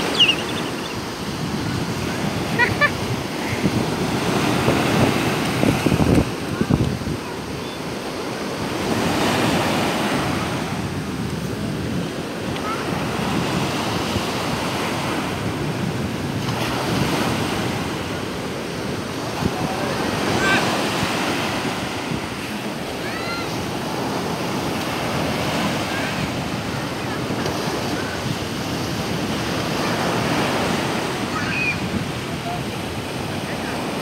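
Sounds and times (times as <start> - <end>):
waves breaking on sandy beach: 0.0 - 34.0.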